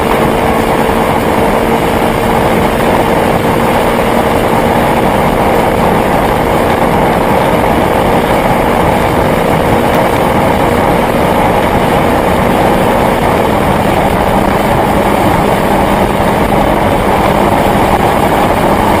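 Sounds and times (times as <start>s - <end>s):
car engine running: 0.0s - 19.0s
road and wind noise: 0.0s - 19.0s.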